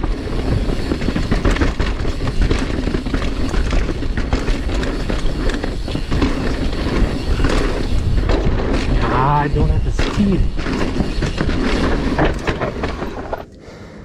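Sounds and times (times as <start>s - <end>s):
bike tyres rolling on dirt: 0.0s - 13.5s.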